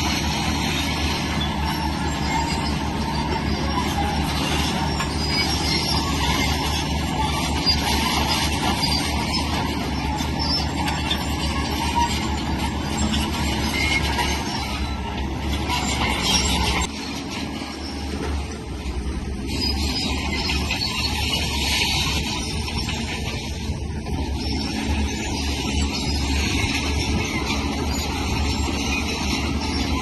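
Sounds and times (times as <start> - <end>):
crawler tracks clanking and squealing: 0.0 - 30.0
diesel engine running: 0.0 - 30.0.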